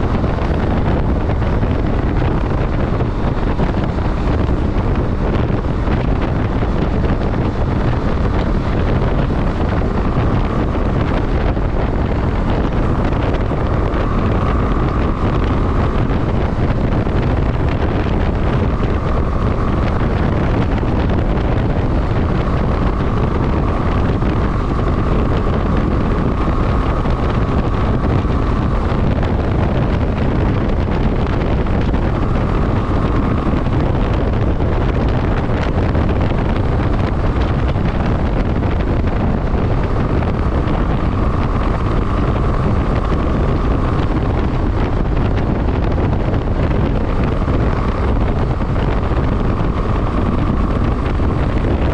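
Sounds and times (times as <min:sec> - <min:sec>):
motorcycle engine running: 0:00.0 - 0:51.9
wind rushing over microphone: 0:00.0 - 0:51.9.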